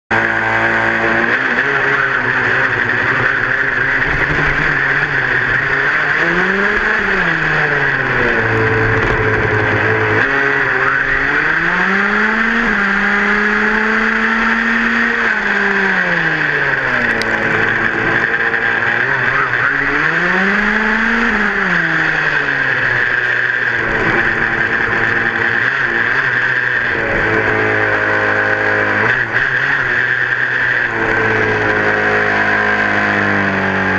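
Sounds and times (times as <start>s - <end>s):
small two-stroke engine revving: 0.1s - 33.9s.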